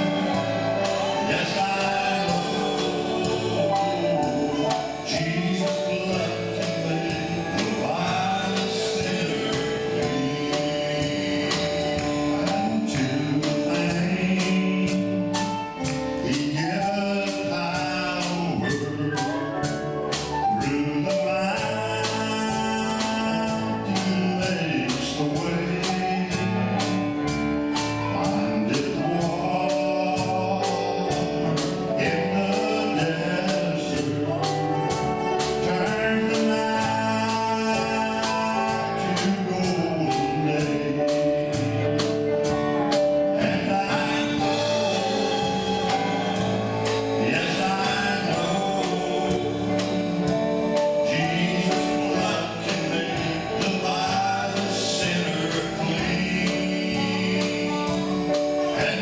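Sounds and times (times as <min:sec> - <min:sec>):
man singing into microphone: 0:00.0 - 0:59.0.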